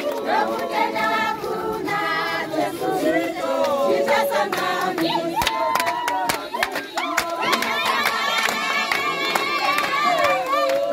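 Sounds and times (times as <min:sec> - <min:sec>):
group singing unaccompanied: 0:00.0 - 0:10.9.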